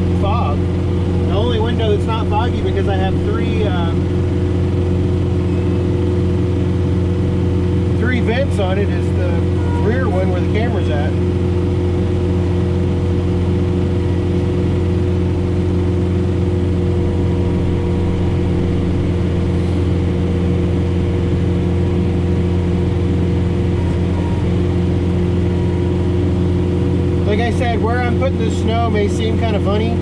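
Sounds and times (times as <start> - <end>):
snowblower working through snow: 0.0 - 30.0
tractor diesel engine running: 0.0 - 30.0.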